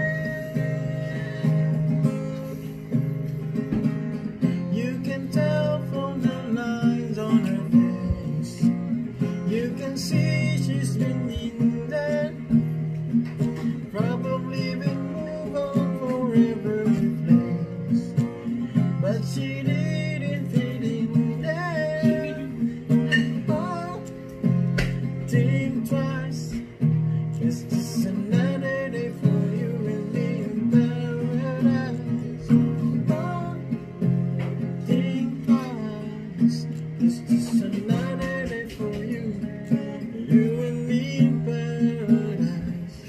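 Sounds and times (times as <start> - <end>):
acoustic guitar strumming: 0.0 - 43.0
man singing: 0.0 - 43.0.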